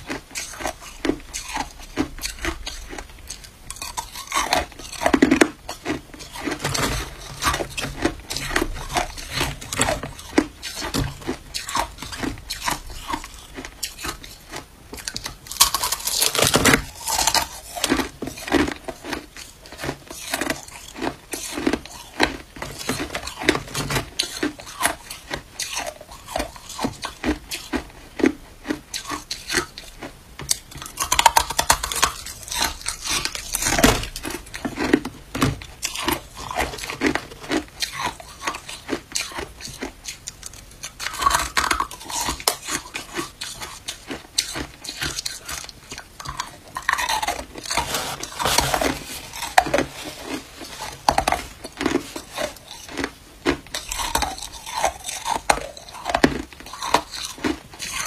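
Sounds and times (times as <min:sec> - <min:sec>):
chewing crushed ice: 0:00.0 - 0:58.0.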